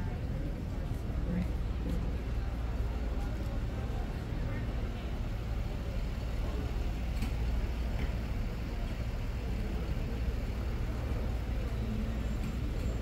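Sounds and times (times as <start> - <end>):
low rumble of passing traffic: 0.0 - 13.0.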